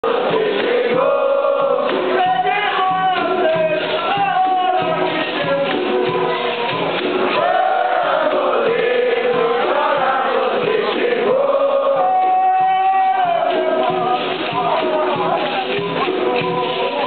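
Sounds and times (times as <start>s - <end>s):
drum beating: 0.0s - 17.0s
voices singing together: 0.0s - 17.0s.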